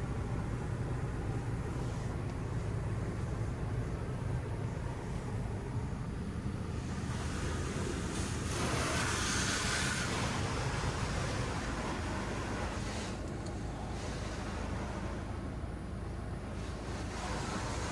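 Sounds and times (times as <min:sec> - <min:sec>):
car wash low hum: 0:00.0 - 0:17.9.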